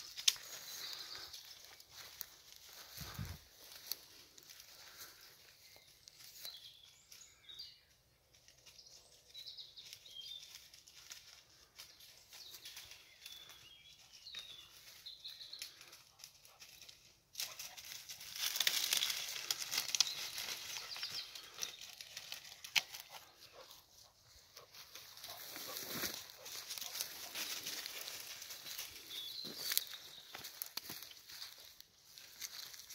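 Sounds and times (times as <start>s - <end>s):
footsteps through dry undergrowth: 0.0s - 32.9s.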